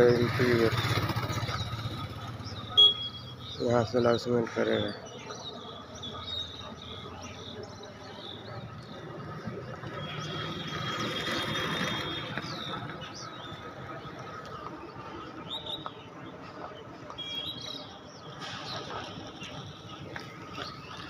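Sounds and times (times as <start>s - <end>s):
birds chirping: 0.0s - 21.0s
outdoor background noise: 0.0s - 21.0s.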